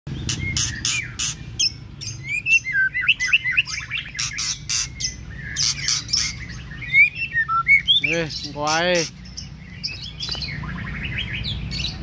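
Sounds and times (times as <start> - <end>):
bird singing: 0.1 - 12.0.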